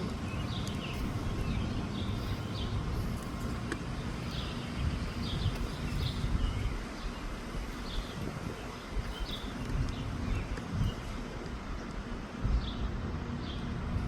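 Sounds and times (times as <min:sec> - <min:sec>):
small birds chirping: 0:00.0 - 0:14.0
wind buffeting the microphone: 0:00.0 - 0:14.0.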